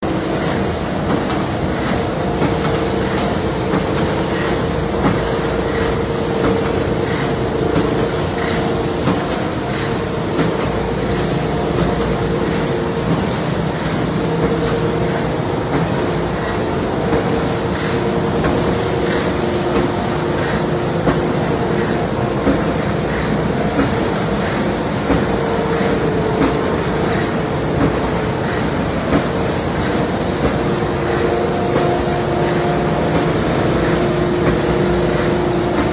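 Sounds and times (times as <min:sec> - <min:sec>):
industrial machinery humming: 0:00.0 - 0:35.9.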